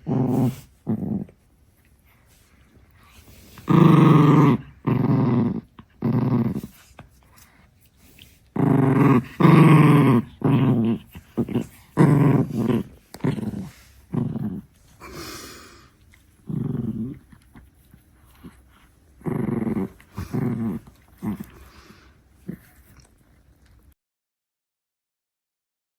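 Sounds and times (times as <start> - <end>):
puppy growling: 0.0 - 1.5, 3.3 - 7.5, 8.1 - 24.0.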